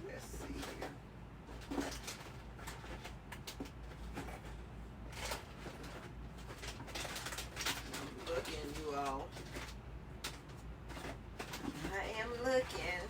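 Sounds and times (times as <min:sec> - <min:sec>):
low steady hum: 0:00.0 - 0:13.0
rustling of items handled: 0:00.0 - 0:13.0.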